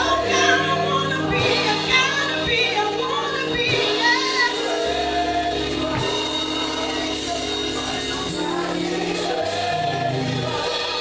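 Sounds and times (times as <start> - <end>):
band playing sustained chords: 0.0 - 11.0
people singing: 0.0 - 11.0.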